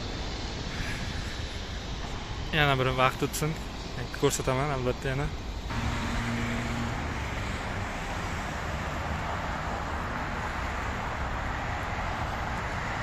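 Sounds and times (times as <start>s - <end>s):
cars passing hiss: 0.0s - 13.0s
low traffic rumble: 0.0s - 13.0s.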